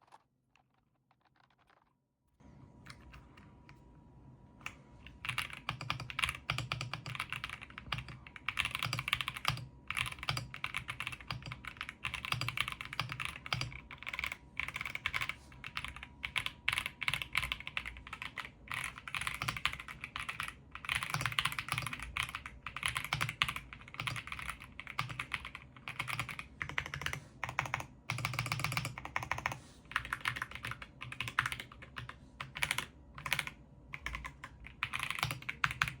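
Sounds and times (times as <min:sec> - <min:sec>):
fast mechanical keyboard typing: 0:00.0 - 0:01.9, 0:04.6 - 0:36.0.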